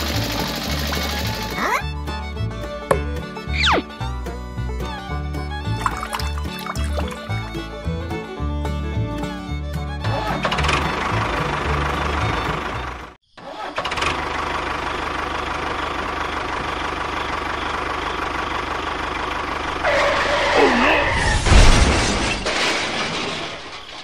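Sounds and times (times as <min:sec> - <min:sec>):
tractor engine running: 0:00.0 - 0:13.2, 0:13.8 - 0:20.4.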